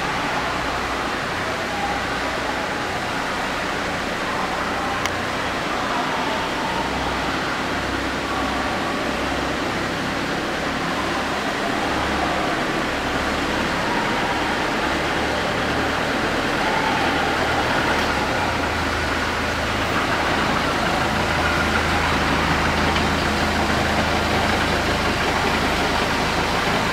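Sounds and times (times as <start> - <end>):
train engine humming: 0.0 - 26.9.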